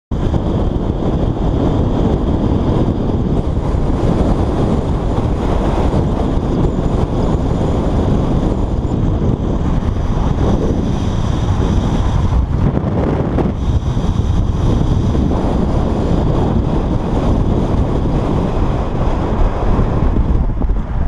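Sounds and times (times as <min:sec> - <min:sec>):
car road noise: 0:00.1 - 0:21.0
wind buffeting microphone: 0:00.1 - 0:21.0.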